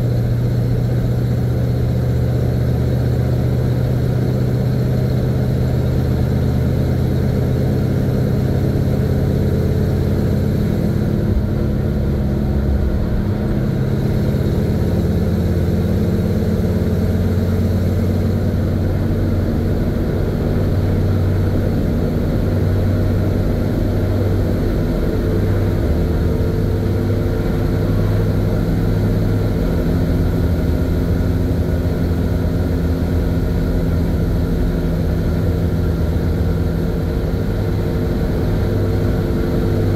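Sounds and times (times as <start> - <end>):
truck engine droning: 0.0 - 39.9.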